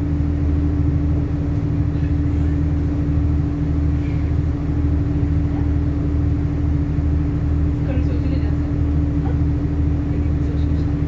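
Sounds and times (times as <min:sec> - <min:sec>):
constant hum: 0:00.0 - 0:11.0
train cabin rumble: 0:00.0 - 0:11.0.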